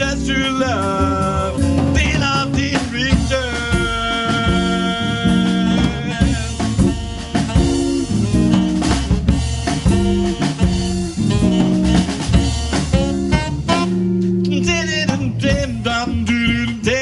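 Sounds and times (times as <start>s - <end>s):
double bass: 0.0s - 17.0s
drum kit: 0.0s - 17.0s
guitar chords: 0.0s - 17.0s.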